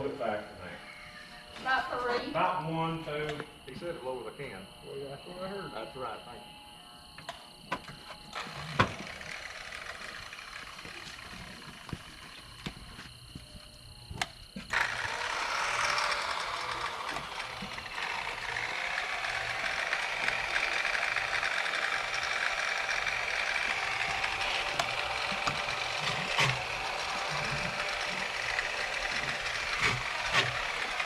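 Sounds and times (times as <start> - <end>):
electric grinder running: 0.0 - 4.0, 4.8 - 31.0.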